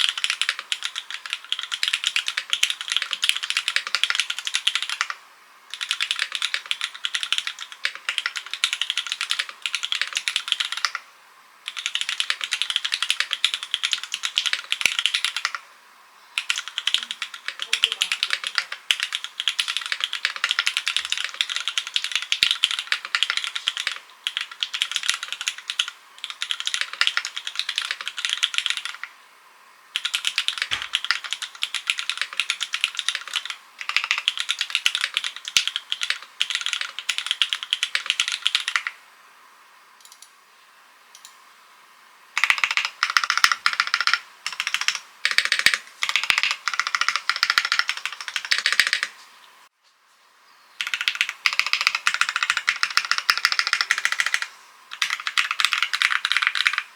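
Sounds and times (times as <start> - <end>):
mechanical keyboard typing: 0.0 - 11.0, 11.7 - 15.6, 16.4 - 29.1, 30.0 - 39.0, 42.4 - 49.2, 50.8 - 56.9.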